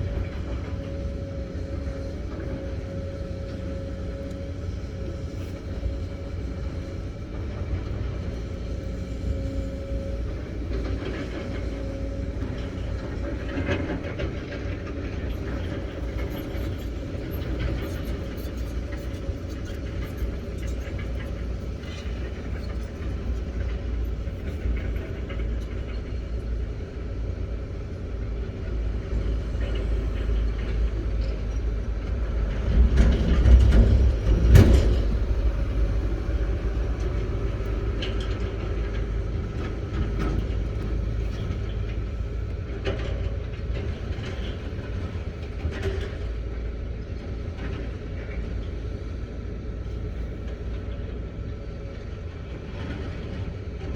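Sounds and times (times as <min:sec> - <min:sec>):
excavator diesel engine rumbling: 0:00.0 - 0:53.9.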